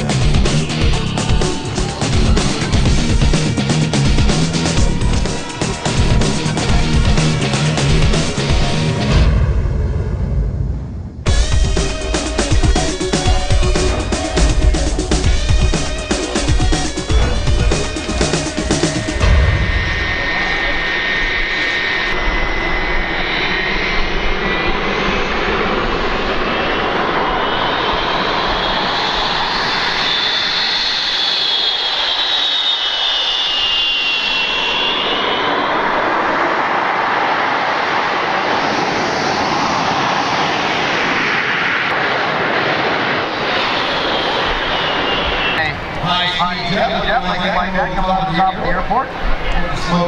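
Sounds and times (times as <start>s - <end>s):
jet engine rush and whine: 0.0s - 50.0s.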